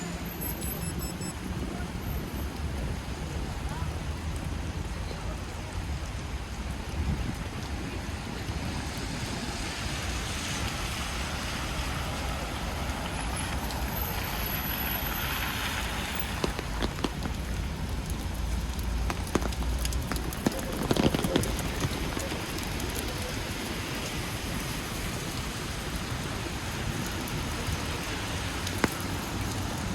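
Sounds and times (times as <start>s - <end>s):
low rumble of traffic: 0.0s - 29.9s
steady rain on street: 0.0s - 29.9s.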